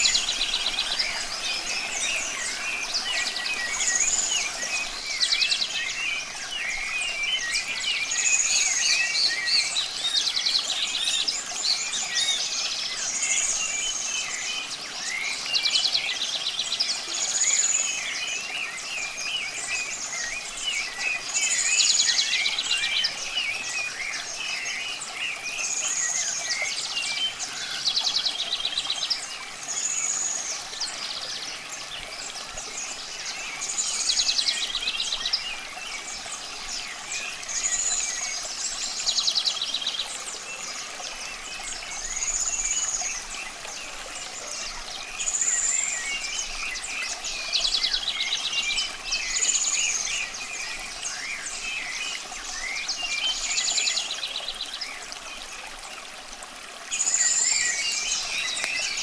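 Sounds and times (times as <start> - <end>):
birds chirping softly: 0.0 - 59.0
running water hiss: 0.0 - 59.0.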